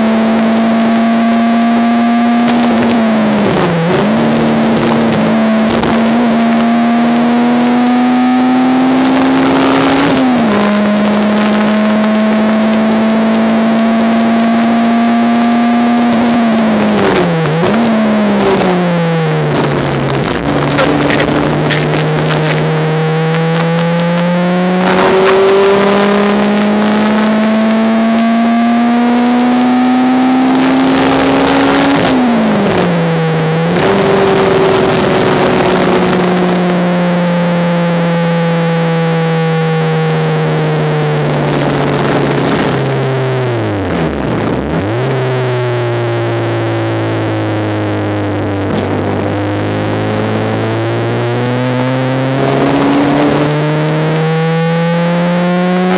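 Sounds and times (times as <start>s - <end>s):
race car engine at speed: 0.0s - 55.9s.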